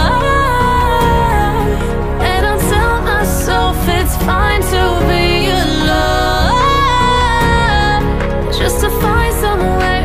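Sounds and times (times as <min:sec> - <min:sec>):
pop song with singing: 0:00.0 - 0:10.0.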